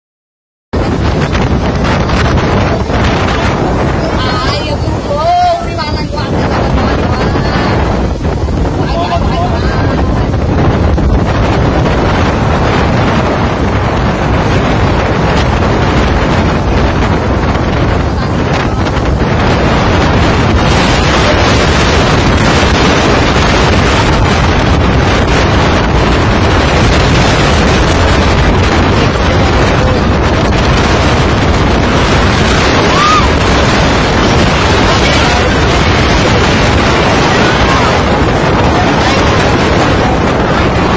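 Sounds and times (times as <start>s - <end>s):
rough water roaring: 0.7s - 40.9s
sea noise: 0.7s - 40.9s
wind buffeting microphone: 0.7s - 40.9s.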